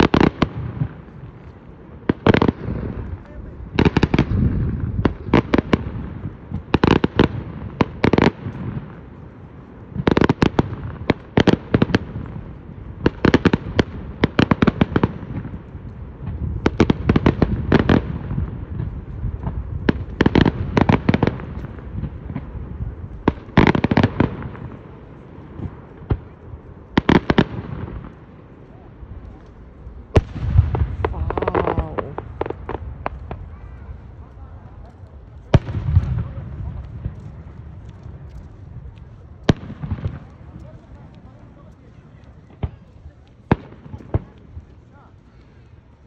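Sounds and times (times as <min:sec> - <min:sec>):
low firework booms: 0:00.0 - 0:44.9
firework bangs and crackles: 0:00.0 - 0:46.0.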